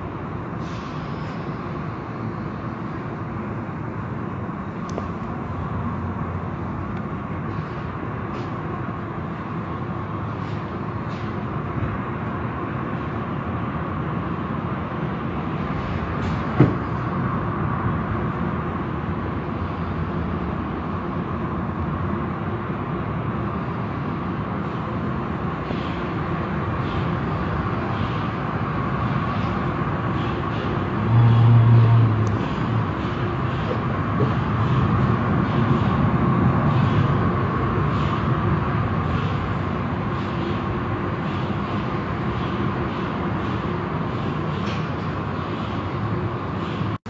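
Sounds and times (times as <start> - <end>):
car wash machinery and water: 0.0 - 47.0.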